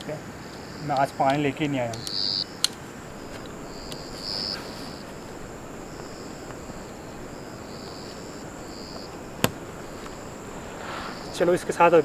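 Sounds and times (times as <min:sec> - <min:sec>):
insects chirping: 0:00.0 - 0:12.0
low hiss: 0:00.0 - 0:12.0.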